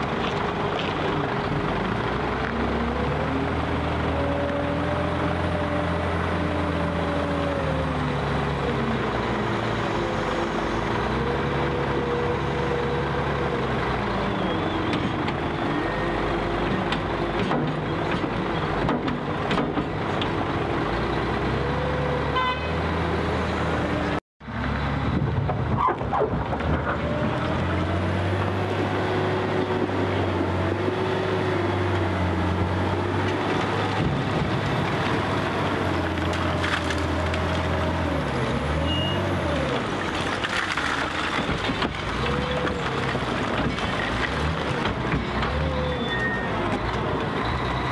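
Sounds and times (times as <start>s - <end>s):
wheel loader diesel engine: 0.0s - 47.9s.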